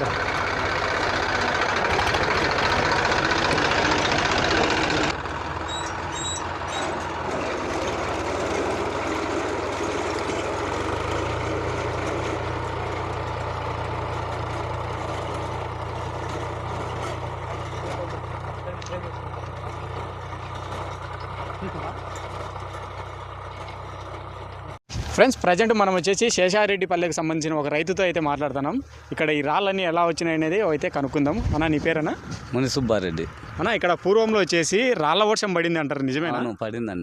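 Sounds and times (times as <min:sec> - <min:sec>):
tractor engine running: 0:00.0 - 0:36.4.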